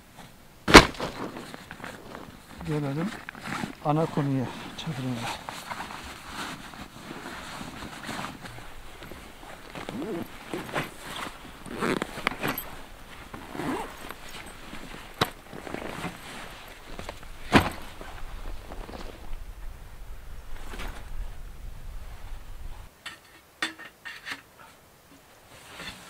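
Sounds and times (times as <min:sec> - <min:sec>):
camping gear rustling: 0:00.0 - 0:23.0, 0:24.0 - 0:26.0
footsteps: 0:00.7 - 0:22.9.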